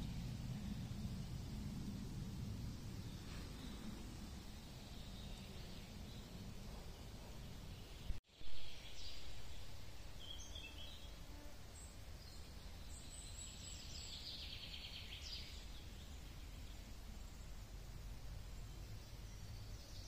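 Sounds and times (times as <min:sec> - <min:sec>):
low steady rumble: 0:00.0 - 0:08.2, 0:11.8 - 0:20.0.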